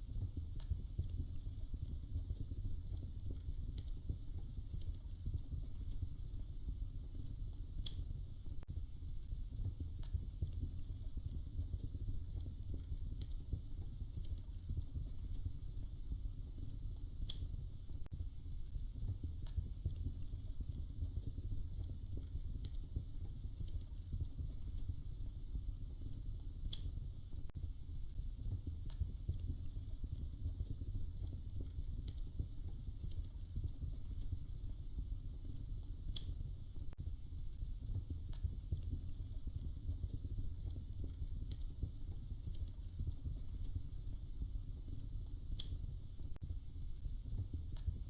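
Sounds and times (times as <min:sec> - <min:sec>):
fire pops and snaps: 0:00.0 - 0:48.0
wood fire crackling: 0:00.0 - 0:48.0.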